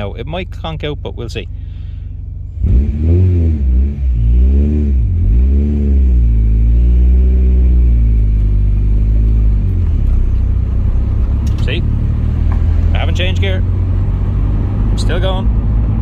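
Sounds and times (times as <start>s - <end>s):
car engine labouring at low revs: 0.0s - 16.0s.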